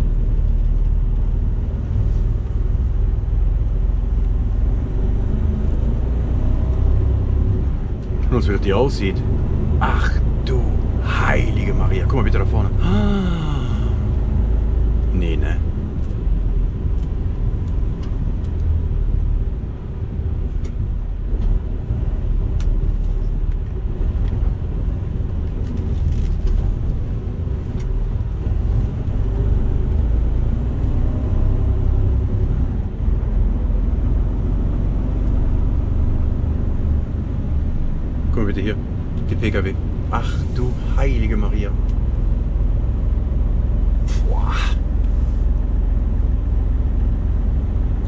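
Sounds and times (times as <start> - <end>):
truck diesel engine rumble: 0.0 - 48.0.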